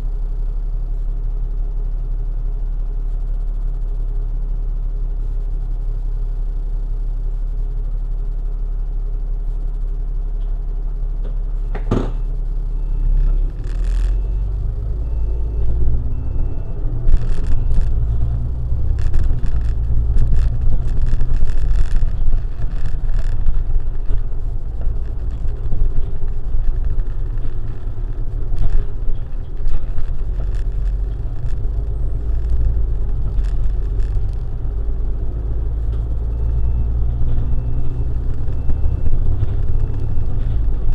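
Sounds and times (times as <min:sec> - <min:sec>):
vehicle engine and tyres rumbling: 0:00.0 - 0:40.9.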